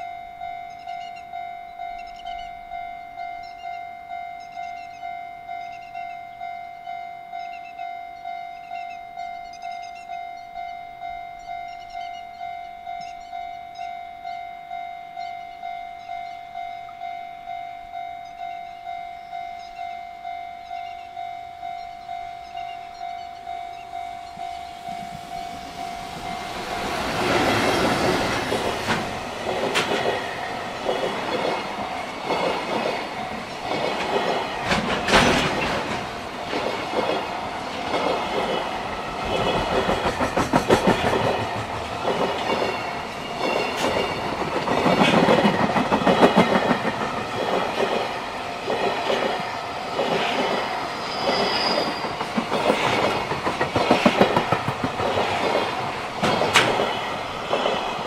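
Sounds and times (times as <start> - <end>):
freight train wheels clacking: 0.0 - 58.0.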